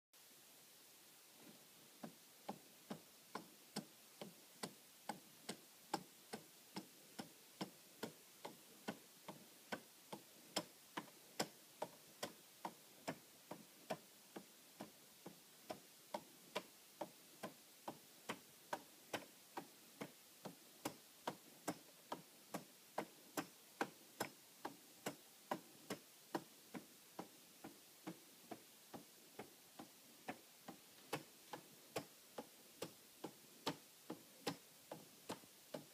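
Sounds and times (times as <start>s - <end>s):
clock ticking: 1.9s - 35.9s.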